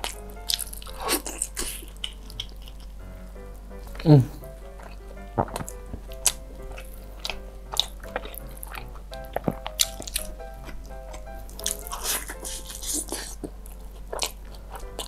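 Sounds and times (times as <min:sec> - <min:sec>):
biting and chewing food: 0:00.0 - 0:03.0, 0:03.9 - 0:15.0
soft background music: 0:00.0 - 0:15.0.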